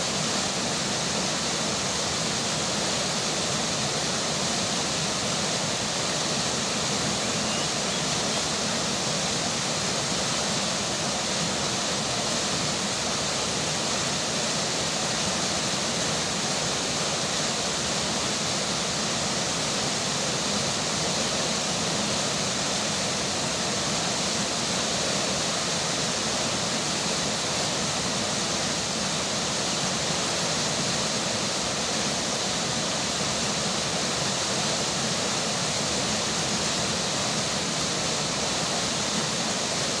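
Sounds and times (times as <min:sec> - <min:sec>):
rainfall: 0:00.0 - 0:40.0
river water rushing: 0:00.0 - 0:40.0.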